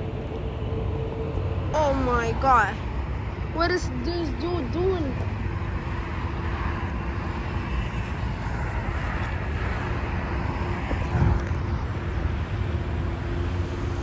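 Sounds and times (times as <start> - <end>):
faint constant hum: 0.0 - 12.9
jet airliner engine rumble: 0.0 - 14.0.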